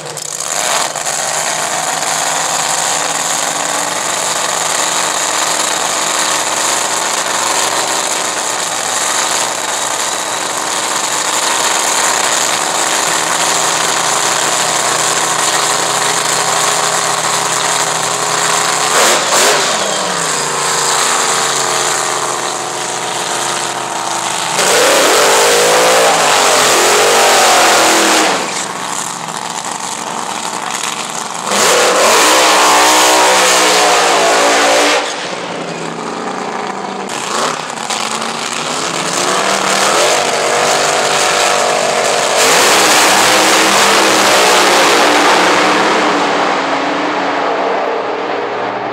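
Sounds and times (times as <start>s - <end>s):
dragster engine idling: 0.0s - 46.8s
dragster engines revving full throttle: 0.0s - 48.9s.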